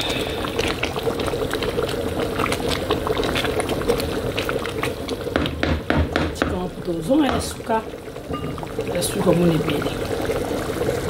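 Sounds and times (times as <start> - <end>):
thick sauce bubbling: 0.0 - 11.0.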